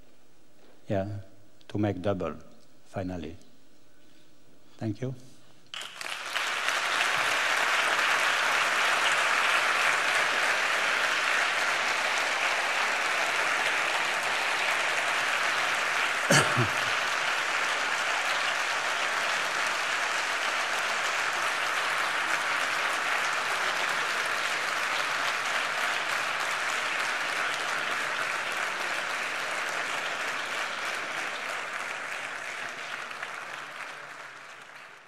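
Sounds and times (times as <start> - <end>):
audience applauding: 5.7 - 35.0.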